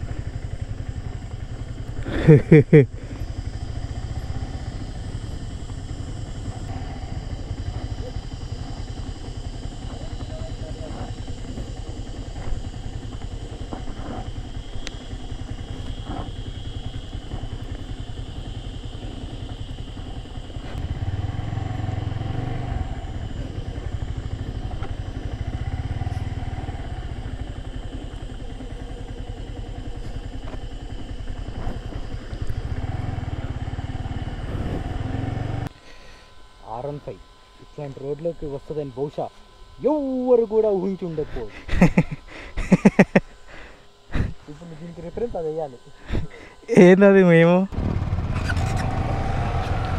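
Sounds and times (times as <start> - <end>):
motorcycle engine on dirt trail: 0.0 - 35.8, 36.4 - 49.9.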